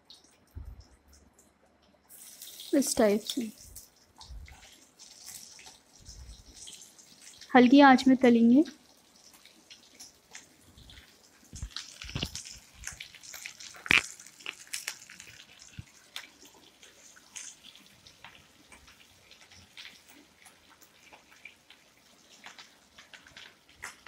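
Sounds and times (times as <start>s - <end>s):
food sizzling in oil: 2.1s - 24.0s.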